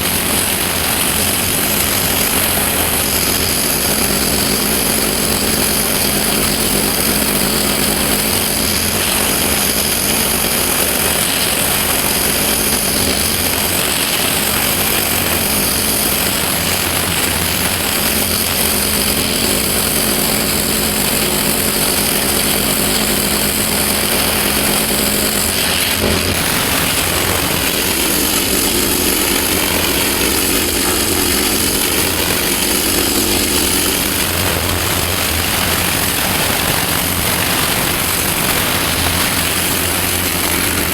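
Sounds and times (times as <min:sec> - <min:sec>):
high-pressure water jet hissing: 0:00.0 - 0:40.9
pressure washer engine droning: 0:00.0 - 0:40.9.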